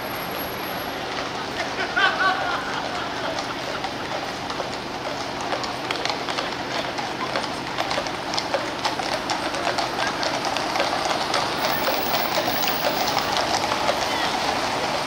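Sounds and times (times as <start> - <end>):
horse hooves clip-clopping on road: 0.0 - 15.0
low hum of traffic: 0.0 - 15.0.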